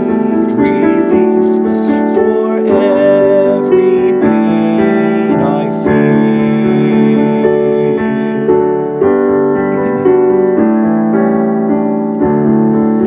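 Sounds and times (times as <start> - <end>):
piano playing slow hymn chords: 0.0 - 13.0.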